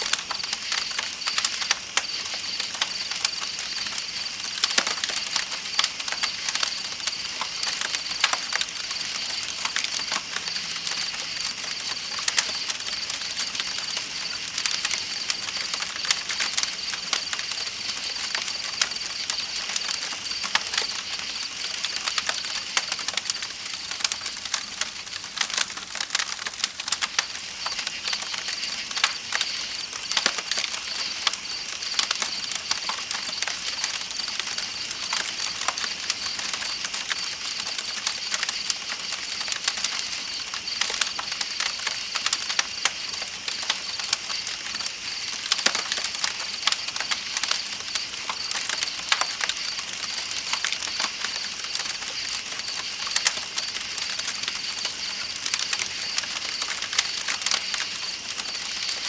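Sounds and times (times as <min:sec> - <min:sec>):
campfire crackling: 0:00.0 - 0:59.0
night insects chirring: 0:00.0 - 0:59.0.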